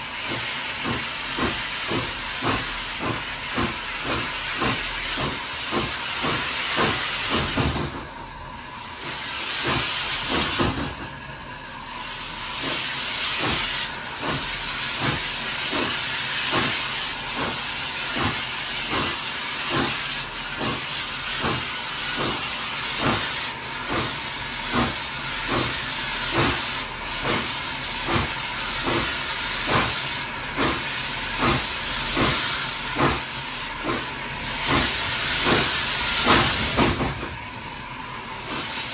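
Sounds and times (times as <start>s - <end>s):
steam hiss: 0.0s - 38.9s
steam locomotive exhaust beats: 0.0s - 38.9s.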